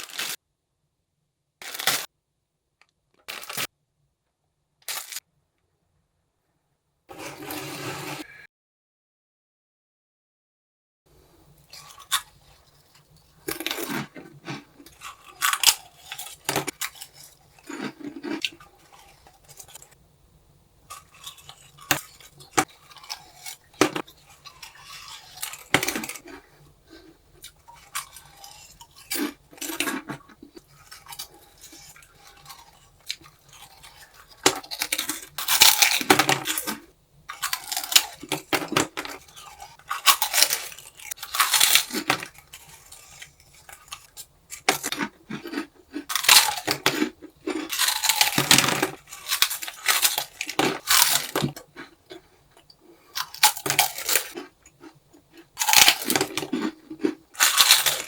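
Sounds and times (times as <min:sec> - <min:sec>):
crunchy snacks being chewed: 0:00.0 - 0:00.4, 0:01.6 - 0:02.1, 0:03.2 - 0:03.7, 0:04.9 - 0:05.2, 0:11.5 - 0:20.0, 0:20.8 - 0:58.0.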